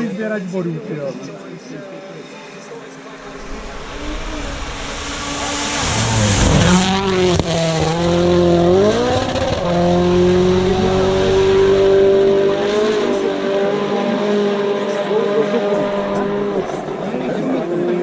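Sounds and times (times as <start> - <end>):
rally car engine revving: 3.2 - 18.0.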